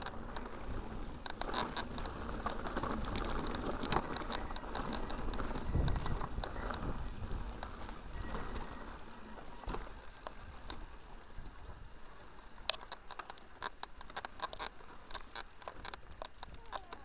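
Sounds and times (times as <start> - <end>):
bike clicks and rattles over stones: 0.0 - 17.0
bike tyre rumble: 0.0 - 17.0.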